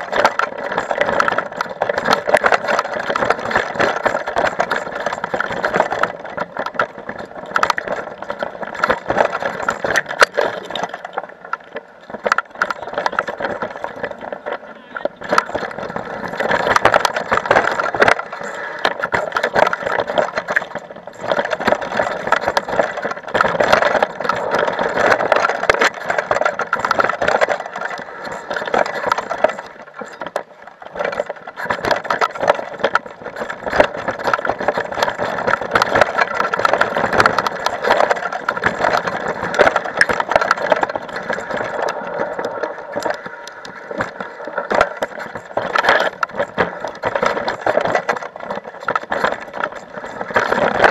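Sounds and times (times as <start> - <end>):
bike rattling over rough dirt: 0.0 - 50.9.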